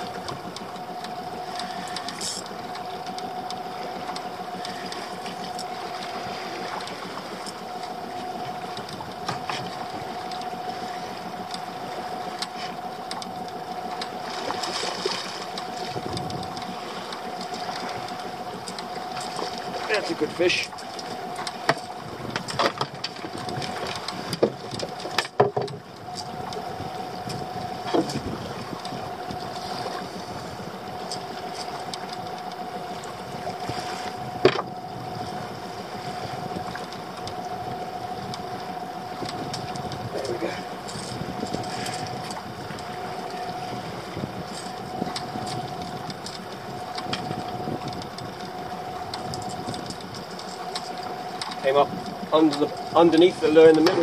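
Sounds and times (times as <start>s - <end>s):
boat engine idling: 0.0s - 54.0s
water around hull: 0.0s - 54.0s
wind: 0.0s - 54.0s.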